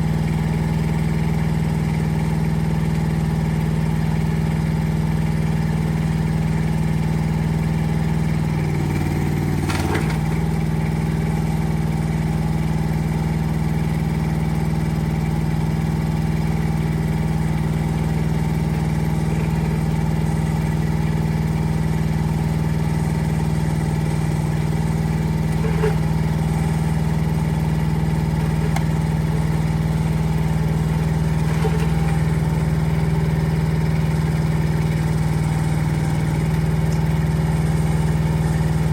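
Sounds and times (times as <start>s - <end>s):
excavator engine running: 5.2s - 38.9s.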